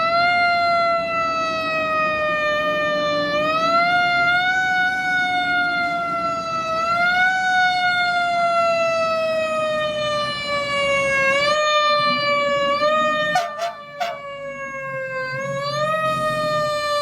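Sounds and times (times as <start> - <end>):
mechanical siren wailing: 0.0 - 17.0
truck engine and road rumble: 0.0 - 17.0.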